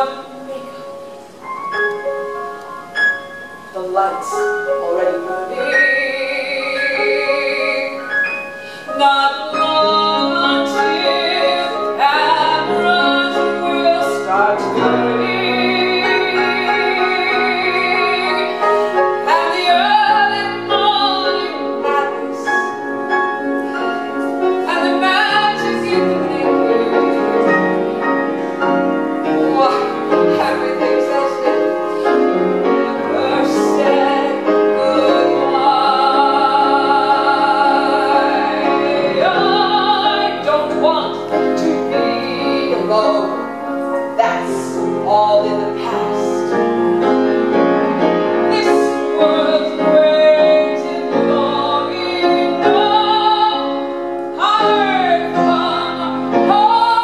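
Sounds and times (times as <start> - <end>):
woman singing a ballad: 0.0 - 1.2, 3.7 - 23.0, 23.8 - 28.4, 29.2 - 47.5, 48.2 - 57.0
piano accompaniment: 0.0 - 57.0.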